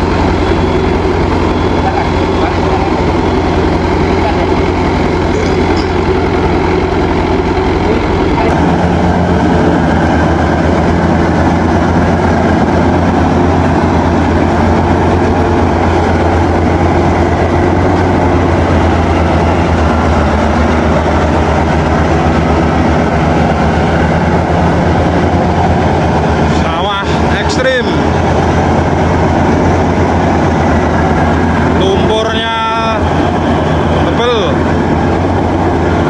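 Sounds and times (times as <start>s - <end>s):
combine harvester engine droning: 0.0s - 36.0s.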